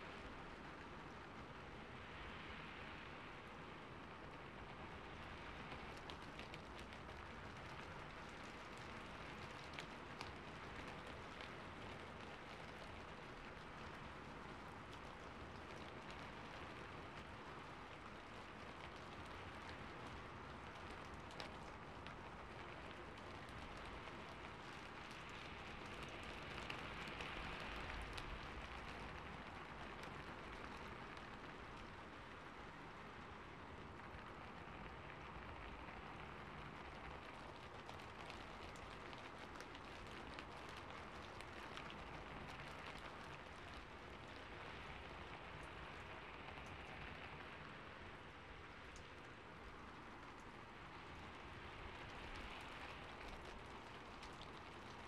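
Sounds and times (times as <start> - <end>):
rain on a rooftop: 0.0 - 55.0.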